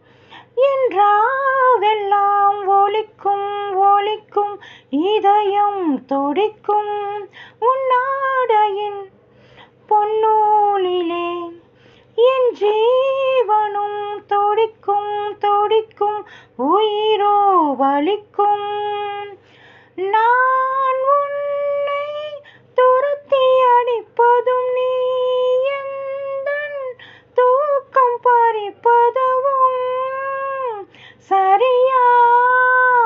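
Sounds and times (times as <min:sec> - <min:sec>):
faint low hum: 0:00.0 - 0:33.0
woman singing wordless melody: 0:00.4 - 0:09.2, 0:09.8 - 0:33.0.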